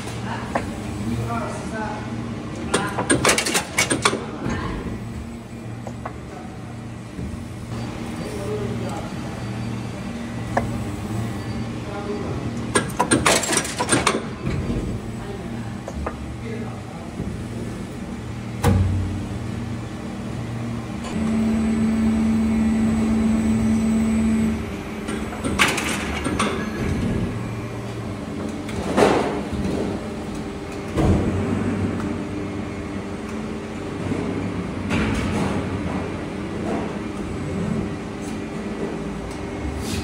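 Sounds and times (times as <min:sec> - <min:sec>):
machine humming: 0:00.0 - 0:37.8.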